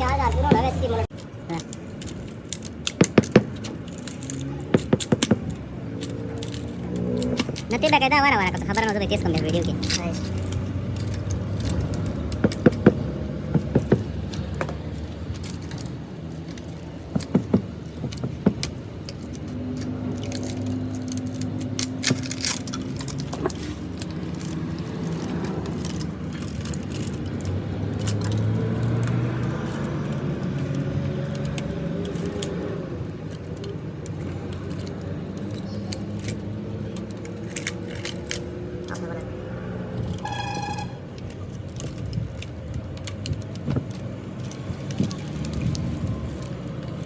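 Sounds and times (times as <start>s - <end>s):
sharp metallic clinks and knocks: 0.0s - 39.1s.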